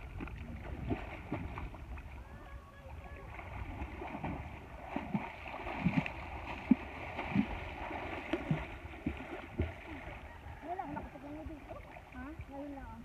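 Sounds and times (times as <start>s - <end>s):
water splashing from swimmers: 0.0s - 13.0s.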